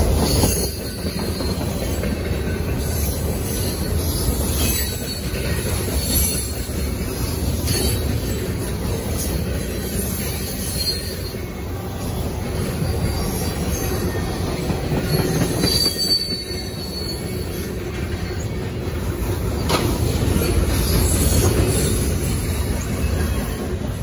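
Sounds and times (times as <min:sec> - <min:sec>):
high wheel squeal: 0:00.0 - 0:11.8, 0:12.6 - 0:18.7, 0:19.4 - 0:23.6
train wheels rumbling on rail: 0:00.0 - 0:24.0.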